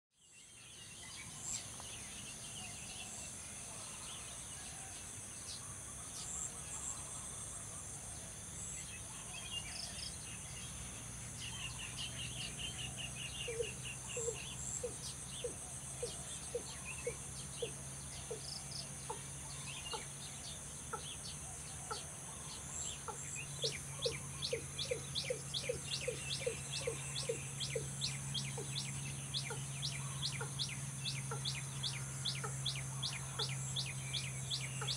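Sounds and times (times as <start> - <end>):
high insect drone: 0.6 - 34.9.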